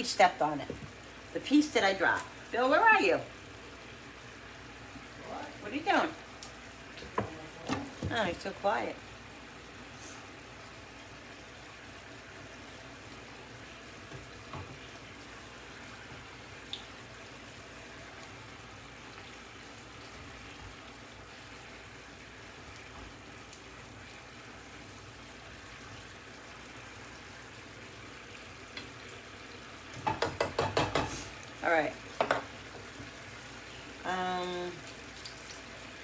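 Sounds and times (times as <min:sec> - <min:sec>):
food sizzling in a frying pan: 0:00.0 - 0:36.0.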